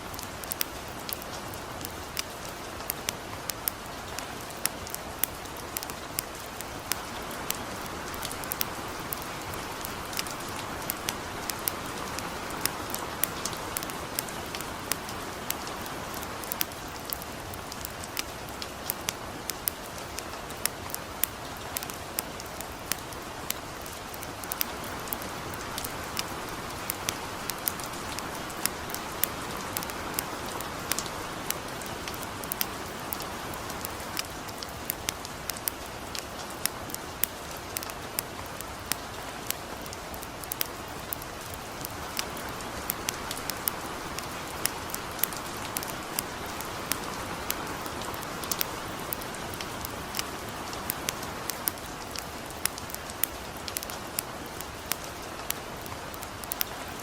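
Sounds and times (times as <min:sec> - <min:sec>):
campfire crackling and popping: 0:00.0 - 0:57.0
light rain hiss: 0:00.0 - 0:57.0.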